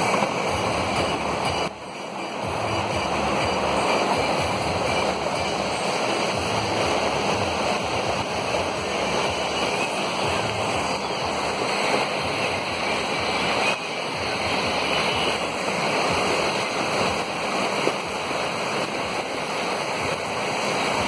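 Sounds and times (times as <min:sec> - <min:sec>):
floodwater rushing: 0:00.0 - 0:21.0
heavy rain: 0:00.0 - 0:21.0.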